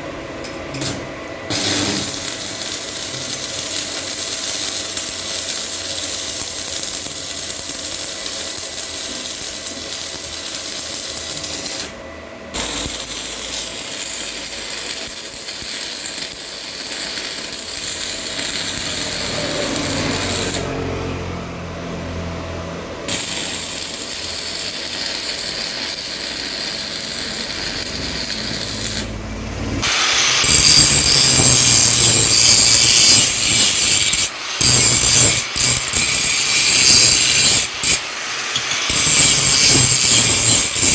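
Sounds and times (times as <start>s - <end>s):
power tool running: 0.7s - 40.9s.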